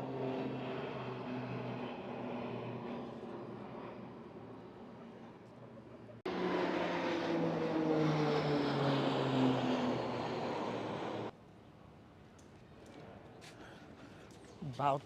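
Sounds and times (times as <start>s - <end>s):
propeller airplane droning past: 0.0s - 14.8s.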